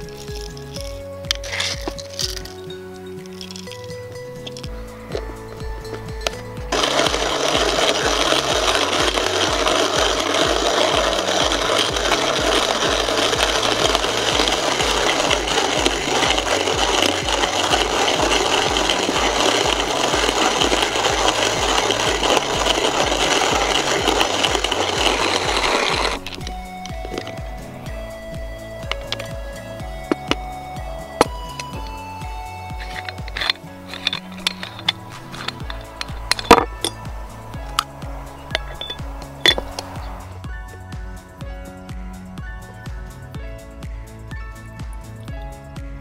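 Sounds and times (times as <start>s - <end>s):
hand coffee grinder grinding: 0.0s - 40.4s
background music with steady beat: 0.0s - 46.0s.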